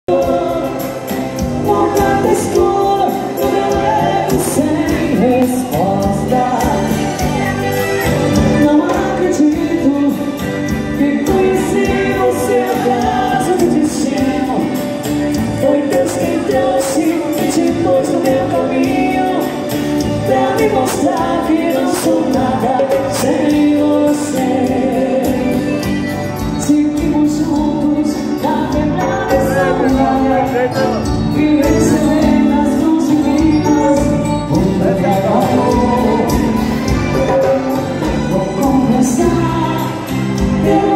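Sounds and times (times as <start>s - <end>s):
keyboard: 0.0s - 40.9s
woman singing lead: 0.0s - 40.9s
electric guitar: 0.1s - 40.9s.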